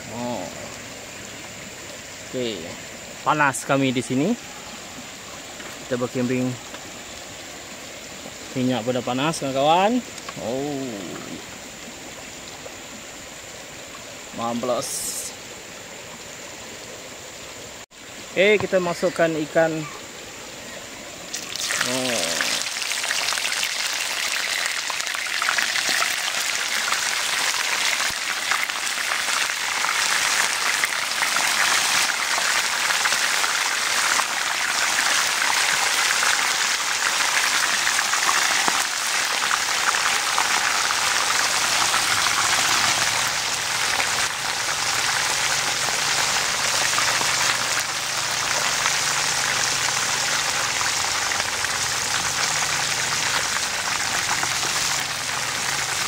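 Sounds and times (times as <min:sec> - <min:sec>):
fish deep-frying sizzle: 0:00.0 - 0:15.4, 0:21.2 - 0:56.0.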